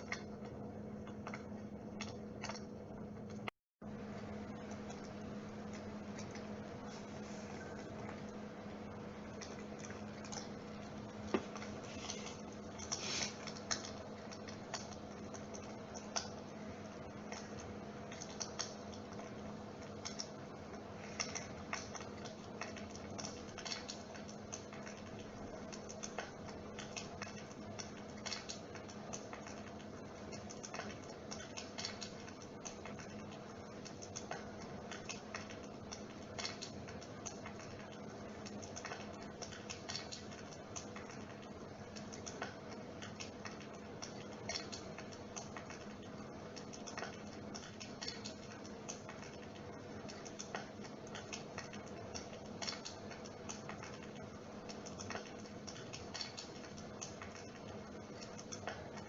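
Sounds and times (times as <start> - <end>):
electric fireplace hum: 0.0 - 59.0.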